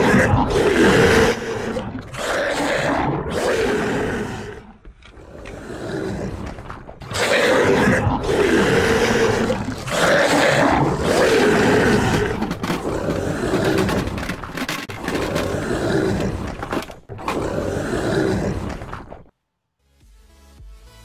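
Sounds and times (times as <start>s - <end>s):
monster roars and growls: 0.0s - 19.3s.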